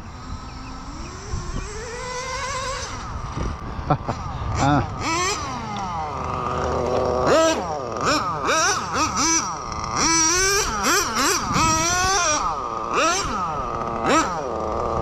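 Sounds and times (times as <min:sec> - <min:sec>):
rc car engine revving: 0:00.0 - 0:15.0.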